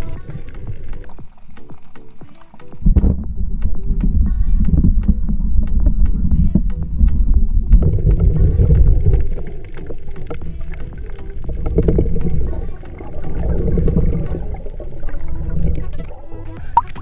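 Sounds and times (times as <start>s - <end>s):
muffled underwater rumble: 0.0s - 17.0s.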